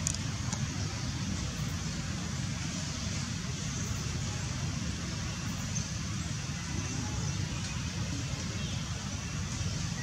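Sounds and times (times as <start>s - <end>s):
high hiss: 0.0s - 10.0s.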